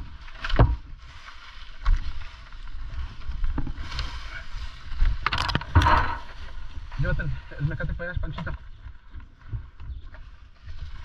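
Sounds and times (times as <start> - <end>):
dry palm fronds rustling: 0.0 - 11.0
low microphone rumble: 2.0 - 11.0.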